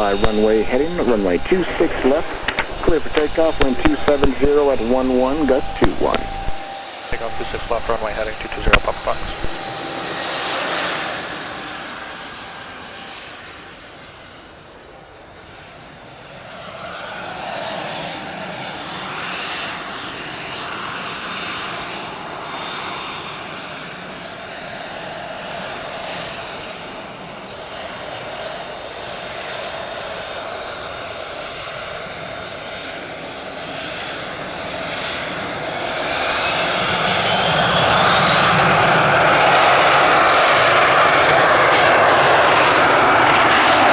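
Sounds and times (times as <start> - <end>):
jet engines with rising whine: 0.0 - 43.9.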